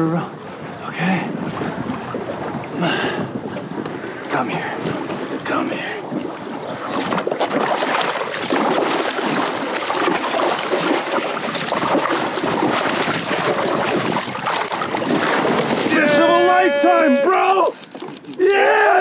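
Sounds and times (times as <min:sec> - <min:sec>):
water splashing and churning: 0:00.0 - 0:19.0
wind buffeting microphone: 0:00.0 - 0:19.0.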